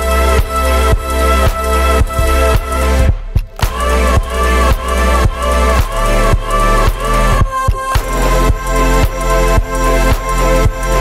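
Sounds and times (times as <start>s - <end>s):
bass hit: 0.0s - 11.0s
electronic dance music: 0.0s - 11.0s.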